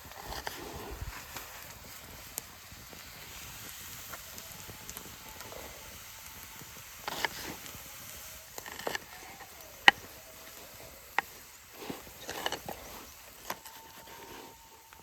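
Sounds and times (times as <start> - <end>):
low hiss: 0.0 - 15.0
wood fire crackling: 0.0 - 15.0.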